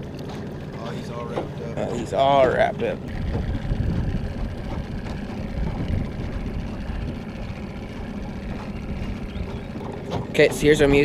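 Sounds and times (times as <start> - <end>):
boat motor low rumble: 0.0 - 11.0.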